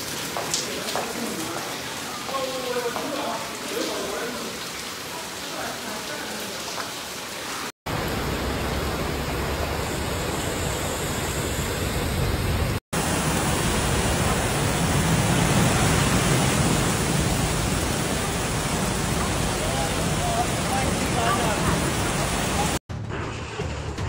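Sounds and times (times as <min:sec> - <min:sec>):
heavy rain: 0:00.0 - 0:22.8
running water: 0:00.0 - 0:22.8.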